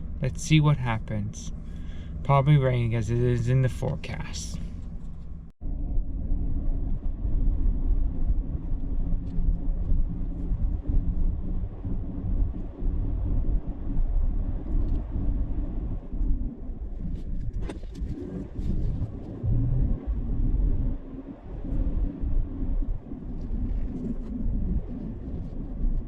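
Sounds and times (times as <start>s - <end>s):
vehicle driving rumble: 0.0s - 26.0s.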